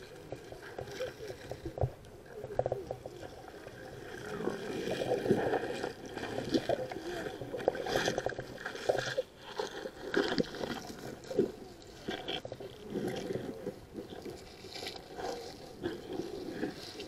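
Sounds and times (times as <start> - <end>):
underwater gurgling: 0.0 - 17.0.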